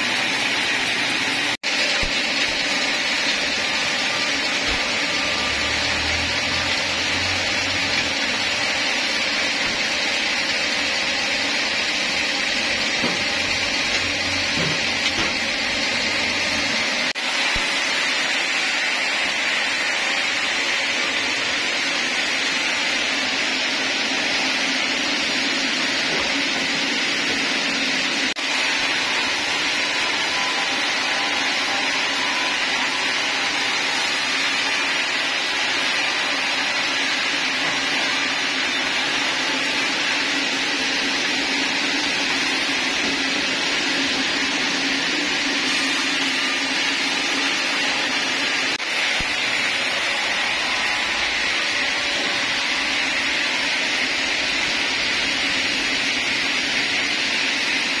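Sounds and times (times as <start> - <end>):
band saw running: 0.0 - 58.0.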